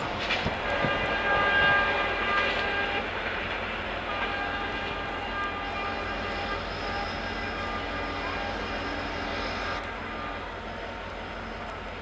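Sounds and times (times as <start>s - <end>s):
diesel locomotive working: 0.0s - 12.0s
train horn: 0.0s - 12.0s
wheels rumbling on rail: 0.0s - 12.0s.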